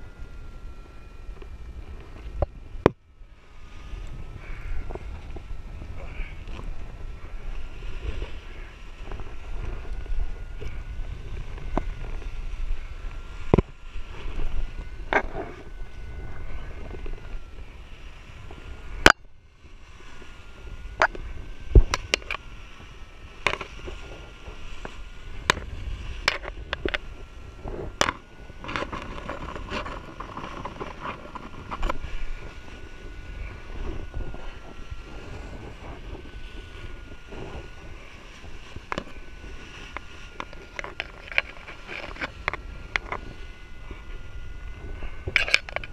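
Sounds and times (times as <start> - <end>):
faint wavering tone: 0.0 - 45.9
wind rumbling on microphone: 0.0 - 45.9.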